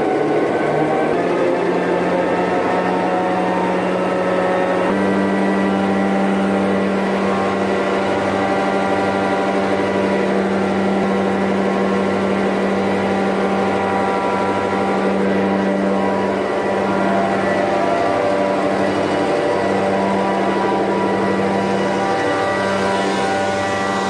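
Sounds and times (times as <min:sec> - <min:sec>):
large engine running: 0:00.0 - 0:24.0.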